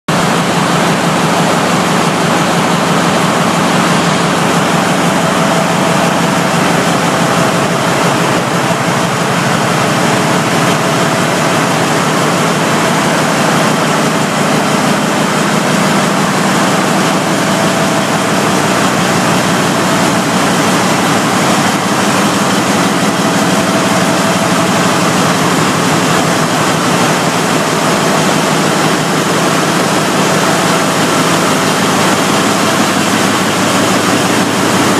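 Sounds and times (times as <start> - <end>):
large diesel engine running: 0.1 - 34.9.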